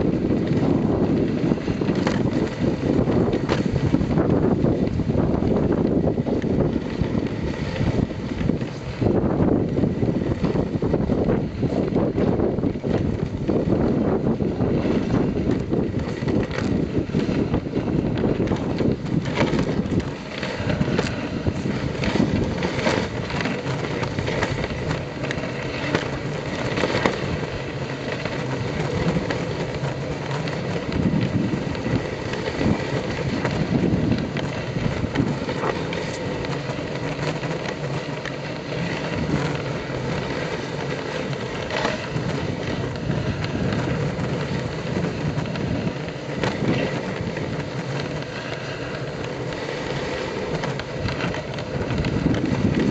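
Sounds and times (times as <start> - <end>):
sled clicks and knocks: 0.0 - 52.9
sled runners hissing on snow: 0.0 - 52.9.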